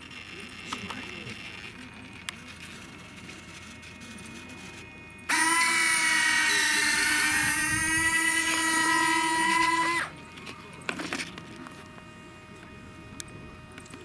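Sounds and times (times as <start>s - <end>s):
electric motor high whine: 0.0s - 14.0s.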